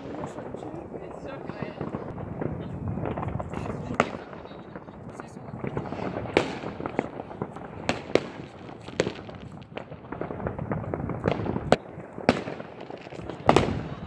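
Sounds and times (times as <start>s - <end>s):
distant fireworks crackling: 0.0s - 14.0s
loud firecracker bangs: 0.0s - 14.0s.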